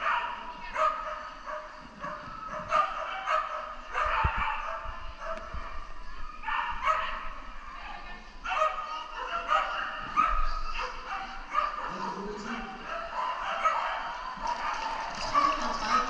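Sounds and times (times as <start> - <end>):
dog barking: 0.0 - 5.8, 6.4 - 7.4, 8.5 - 16.0.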